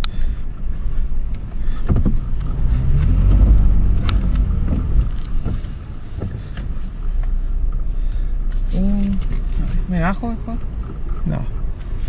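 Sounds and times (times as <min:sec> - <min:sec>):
engine working under load: 0:00.0 - 0:12.0
heavy low rumble: 0:00.0 - 0:12.0.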